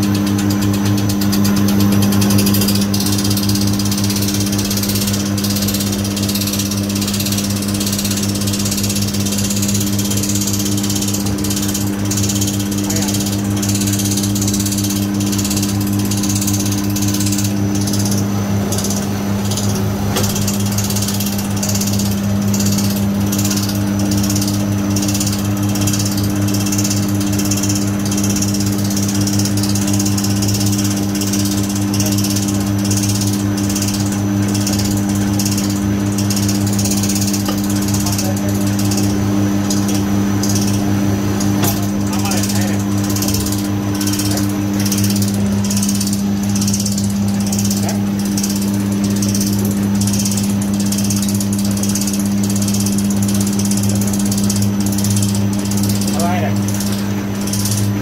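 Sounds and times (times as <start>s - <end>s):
motor hum: 0.0s - 58.0s
rapid mechanical clatter: 0.0s - 58.0s.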